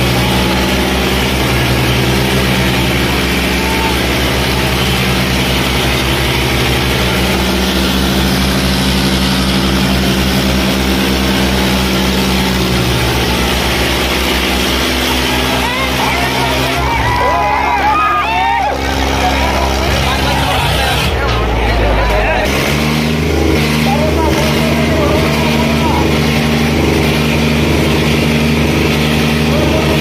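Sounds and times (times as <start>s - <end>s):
tractor engines running hard: 0.0s - 30.0s.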